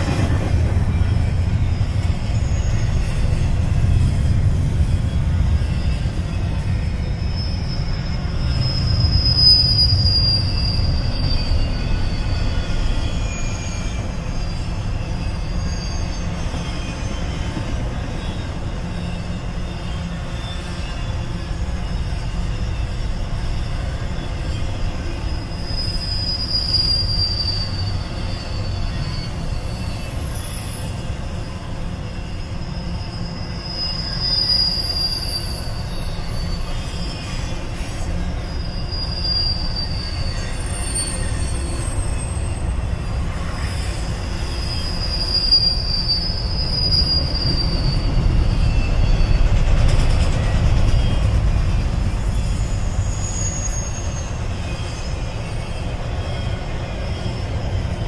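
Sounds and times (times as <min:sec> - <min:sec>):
train wheels rumbling on rail: 0:00.0 - 0:58.0
high-pitched wheel squeal: 0:00.2 - 0:58.0.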